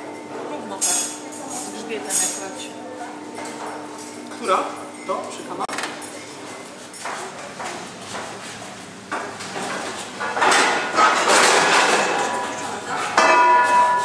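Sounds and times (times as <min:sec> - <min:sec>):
kitchen clatter and bustle: 0:00.0 - 0:14.0.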